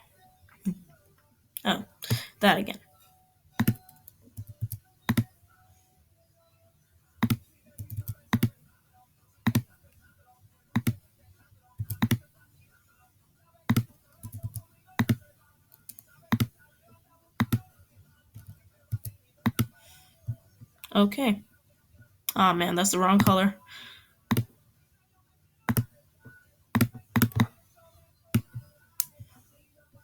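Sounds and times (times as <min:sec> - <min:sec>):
faint radio music: 0:00.0 - 0:30.0.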